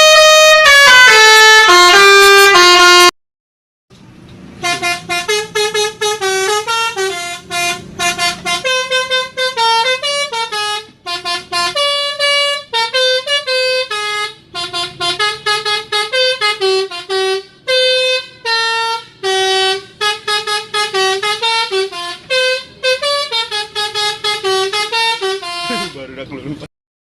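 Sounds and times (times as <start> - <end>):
musical truck horn playing tune: 0.0 - 3.1, 4.6 - 26.1.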